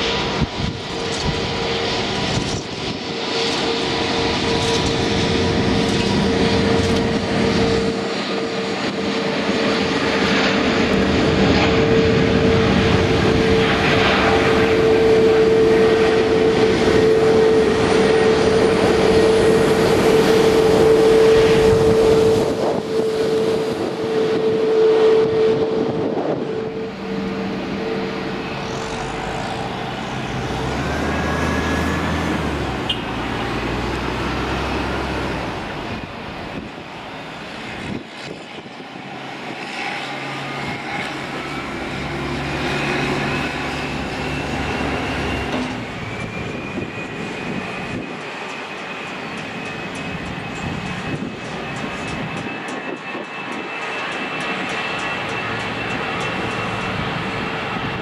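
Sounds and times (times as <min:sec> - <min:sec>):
jet engine whine: 0:00.0 - 0:58.0
jet rumble: 0:00.0 - 0:58.0.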